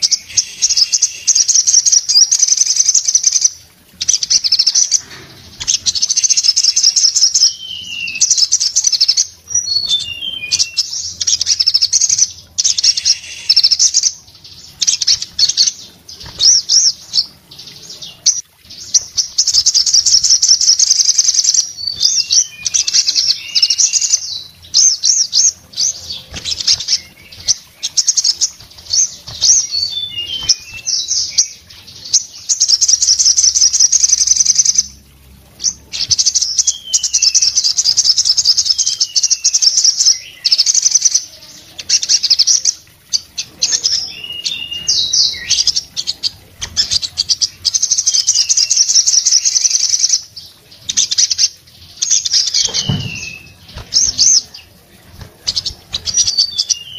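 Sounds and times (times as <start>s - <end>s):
bird twittering trills: 0.0s - 56.9s.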